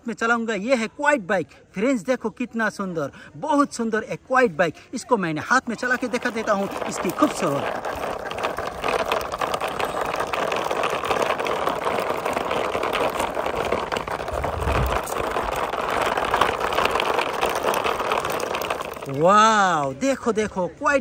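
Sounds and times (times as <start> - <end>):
plastic wheels rattling on concrete: 0.0 - 0.9, 1.8 - 21.0.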